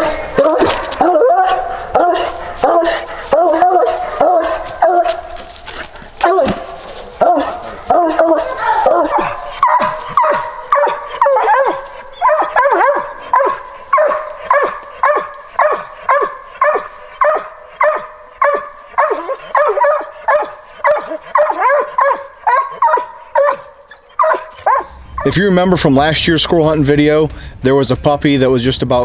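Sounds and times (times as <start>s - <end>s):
hound barking: 0.0s - 5.5s, 6.2s - 25.4s.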